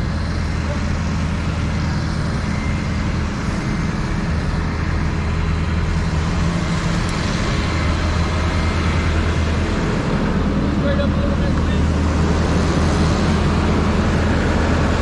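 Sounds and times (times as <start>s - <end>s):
truck engine droning: 0.0s - 15.0s.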